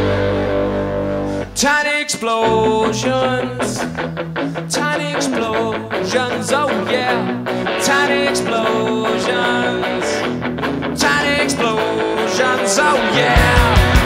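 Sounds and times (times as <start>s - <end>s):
guitar and drums: 0.0s - 14.0s
man singing: 1.5s - 14.0s.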